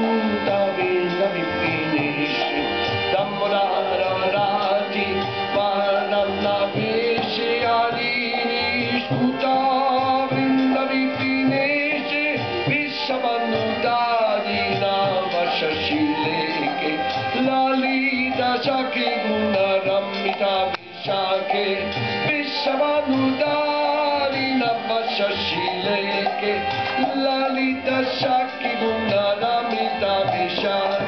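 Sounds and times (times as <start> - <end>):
harmonium chords: 0.0 - 31.0
man singing devotional song: 0.0 - 31.0.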